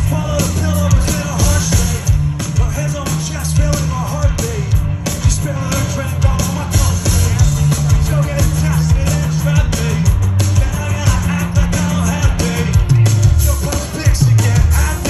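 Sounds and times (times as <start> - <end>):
fast drum beat: 0.0 - 15.0
heavy bass: 0.0 - 15.0
pop-punk band playing live: 0.0 - 15.0.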